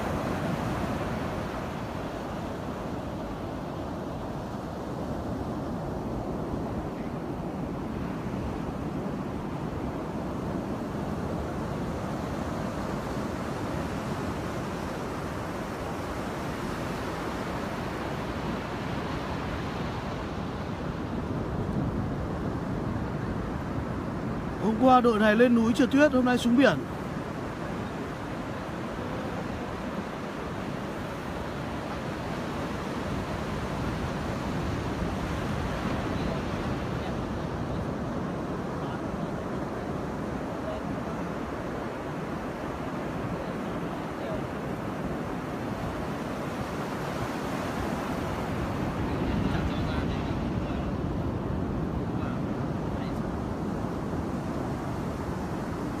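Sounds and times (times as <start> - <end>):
wind noise on microphone: 0.0 - 24.8, 26.4 - 56.0
ocean surf breaking: 0.0 - 56.0.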